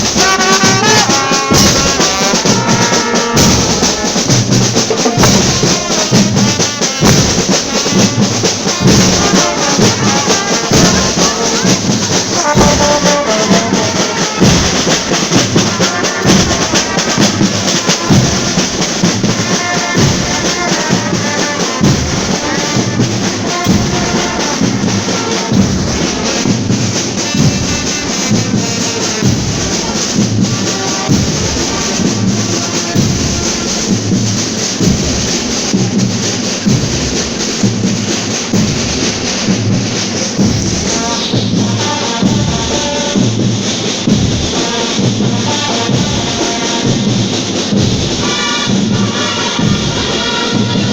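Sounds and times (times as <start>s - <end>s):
brass instruments playing melody: 0.0s - 50.9s
marching bass drum beat: 0.0s - 50.9s.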